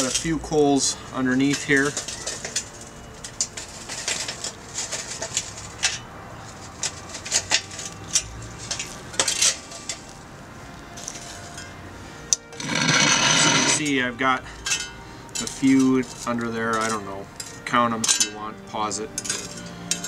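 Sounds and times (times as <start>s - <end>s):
charcoal briquettes clattering on concrete: 0.0s - 0.4s, 1.4s - 10.2s, 11.0s - 11.7s, 12.5s - 14.0s, 14.7s - 18.5s, 19.2s - 20.0s.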